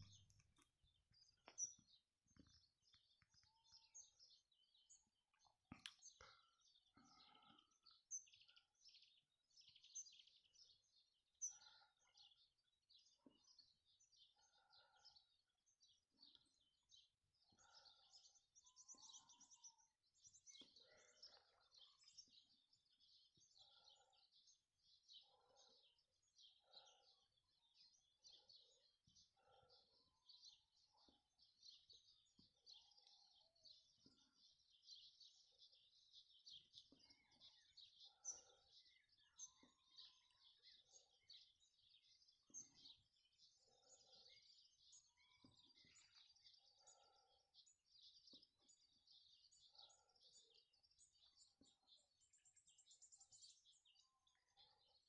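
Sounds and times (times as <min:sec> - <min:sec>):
small birds twittering and chirping: 0:00.0 - 0:55.0.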